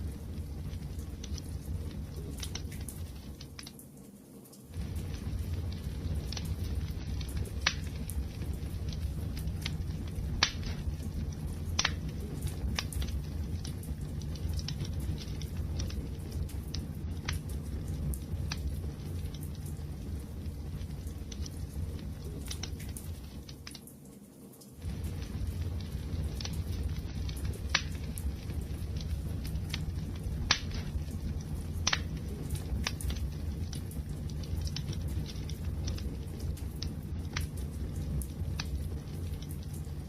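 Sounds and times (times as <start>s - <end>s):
wood fire rumbling: 0.0s - 3.7s, 4.7s - 23.8s, 24.8s - 40.0s
fire crackling and popping: 0.0s - 40.0s.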